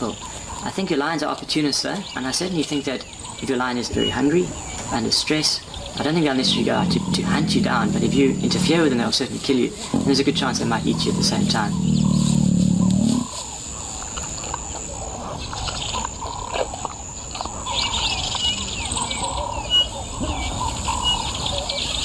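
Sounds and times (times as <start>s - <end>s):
outdoor bush ambience: 0.0s - 22.0s
wild birds chirping: 0.0s - 22.0s.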